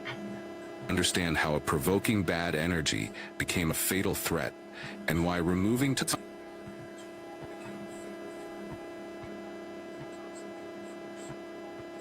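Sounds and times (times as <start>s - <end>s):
electrical hum with tones: 0.0s - 12.0s.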